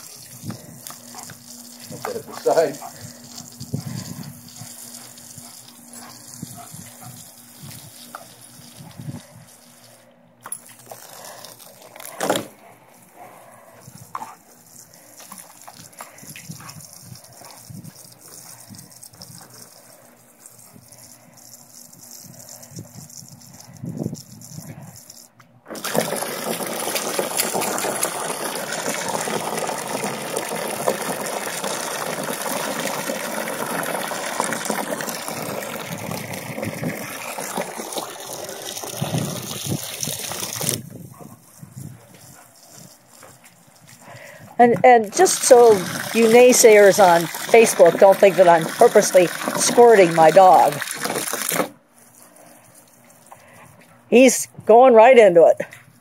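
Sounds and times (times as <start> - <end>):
hose spray hissing and splashing: 0.0 - 10.0, 13.2 - 53.4.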